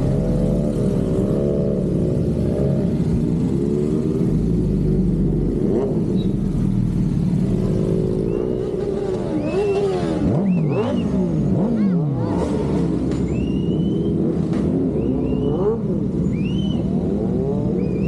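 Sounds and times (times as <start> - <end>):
traffic engines revving and passing: 0.0 - 18.0.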